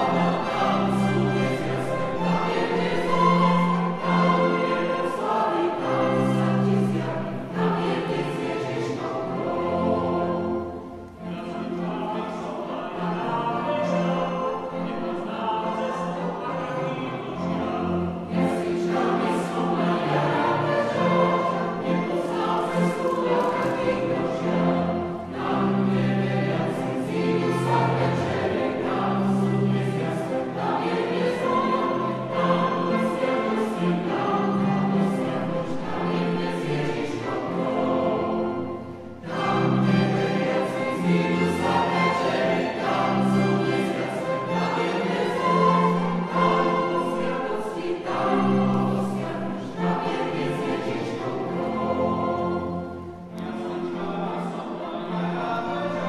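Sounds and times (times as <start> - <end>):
mixed choir singing: 0.0 - 56.0
string quartet: 0.0 - 56.0.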